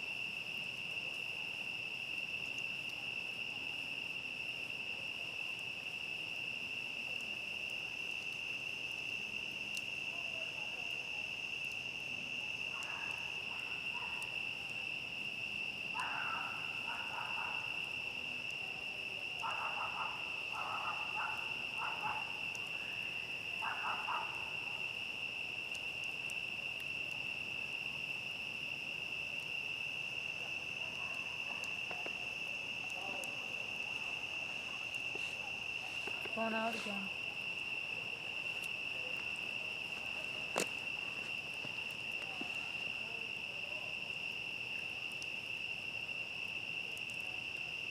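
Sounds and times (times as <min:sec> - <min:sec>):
campfire crackling: 0:00.0 - 0:47.9
crickets chirring: 0:00.0 - 0:47.9.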